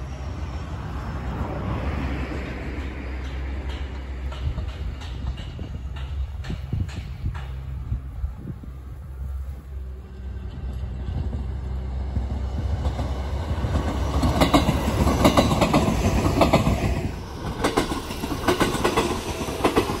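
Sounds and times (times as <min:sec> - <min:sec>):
electric train passing: 0:00.0 - 0:20.0
wheels clacking over rail joints: 0:01.6 - 0:08.7, 0:10.0 - 0:20.0.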